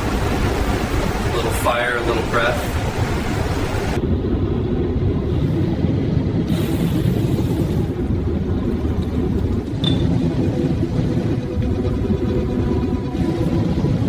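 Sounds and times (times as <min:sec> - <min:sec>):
gas furnace burner rumbling: 0:00.0 - 0:14.0.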